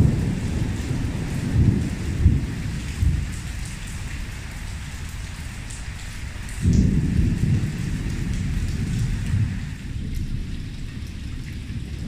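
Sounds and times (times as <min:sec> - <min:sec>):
low thunder rumble: 0:00.0 - 0:05.6, 0:06.4 - 0:12.0
heavy rain on water and tiles: 0:00.0 - 0:12.0.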